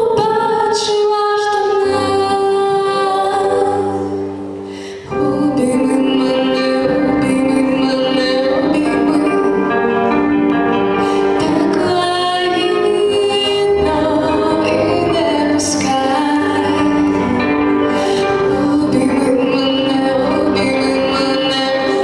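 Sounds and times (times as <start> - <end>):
instrumental backing music: 0.0 - 22.0
woman singing: 0.0 - 22.0.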